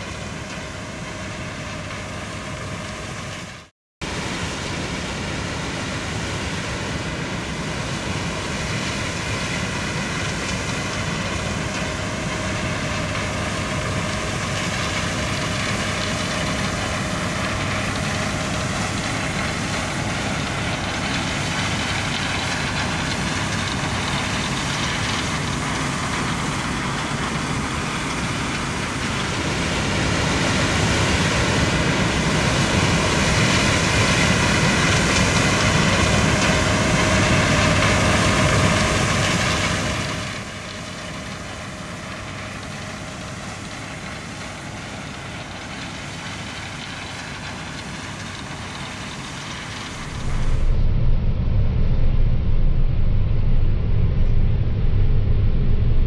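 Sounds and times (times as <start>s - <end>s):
heavy machinery engines droning: 0.0s - 56.0s.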